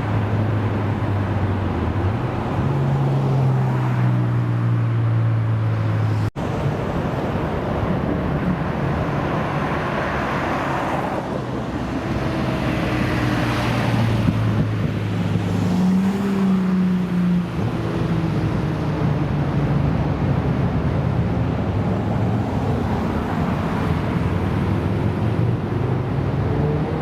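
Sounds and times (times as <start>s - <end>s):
car engines running: 0.0s - 27.0s.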